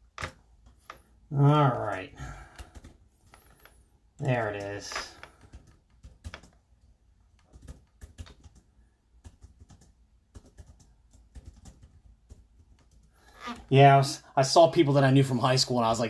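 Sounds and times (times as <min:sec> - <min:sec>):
keyboard typing: 0:00.0 - 0:13.6.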